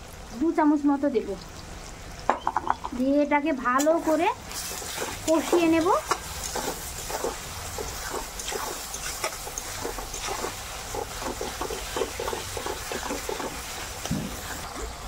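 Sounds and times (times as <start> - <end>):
frying in oil: 0.0 - 15.0.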